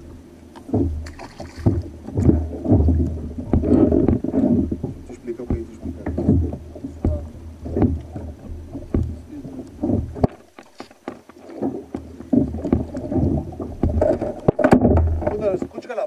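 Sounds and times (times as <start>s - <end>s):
waves lapping against kayak hull: 0.0s - 16.0s
sharp knocks on hull: 0.6s - 15.9s.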